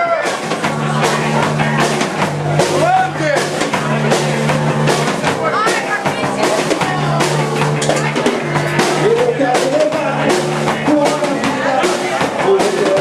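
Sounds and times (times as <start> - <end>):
bass guitar: 0.0 - 13.0
drum kit: 0.0 - 13.0.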